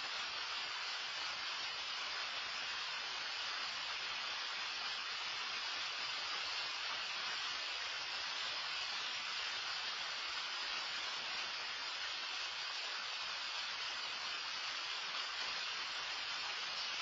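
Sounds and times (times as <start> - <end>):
loud rain falling: 0.0 - 17.0.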